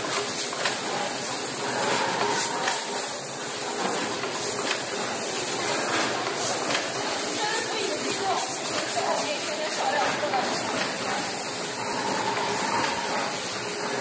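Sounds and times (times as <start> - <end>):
packaging machine hissing: 0.0 - 14.0.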